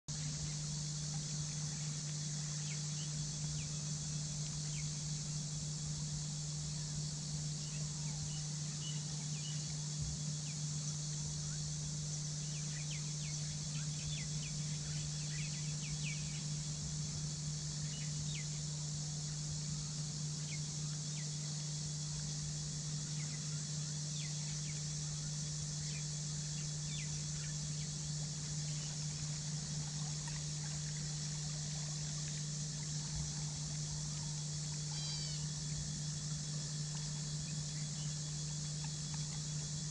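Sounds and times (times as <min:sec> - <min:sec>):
low hum: 0:00.1 - 0:39.9.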